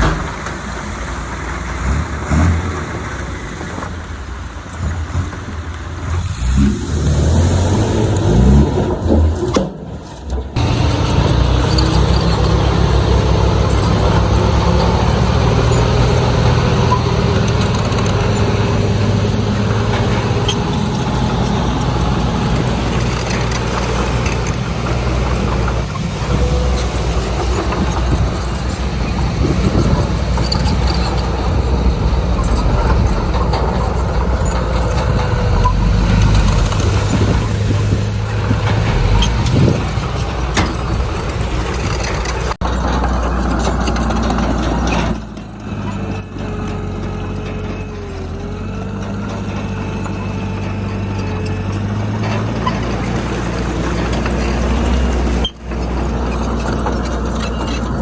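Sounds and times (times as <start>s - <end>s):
heavy diesel machinery engine drone: 0.0s - 9.4s, 10.2s - 58.0s.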